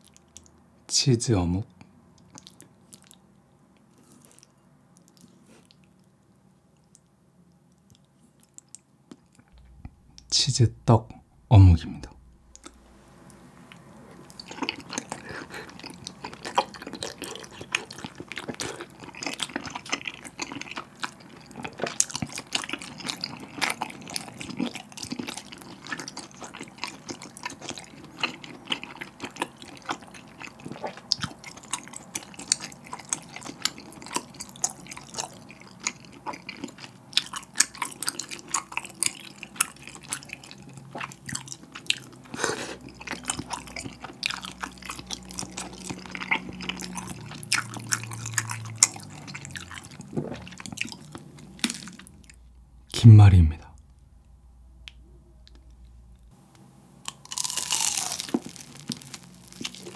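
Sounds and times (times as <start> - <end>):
wet chewing: 2.2 - 10.3, 12.1 - 52.5, 57.1 - 59.9.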